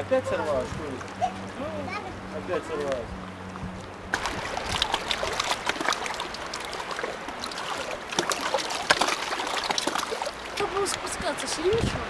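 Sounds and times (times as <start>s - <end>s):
small waves lapping shore: 0.0s - 12.0s.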